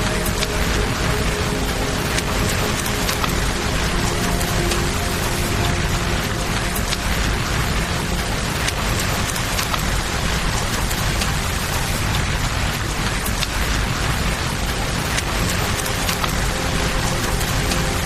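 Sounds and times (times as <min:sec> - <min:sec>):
rain falling: 0:00.0 - 0:18.0
river water rushing: 0:00.0 - 0:18.0.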